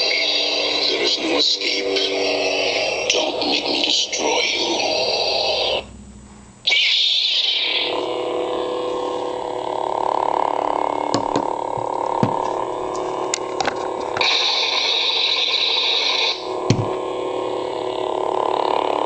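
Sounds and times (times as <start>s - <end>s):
lightsaber humming: 0.0s - 19.0s.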